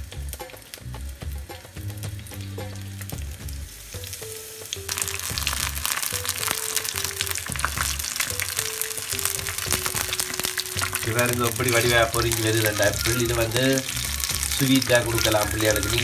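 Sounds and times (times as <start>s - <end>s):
background music: 0.0s - 16.0s
batter frying in hot oil: 0.0s - 16.0s.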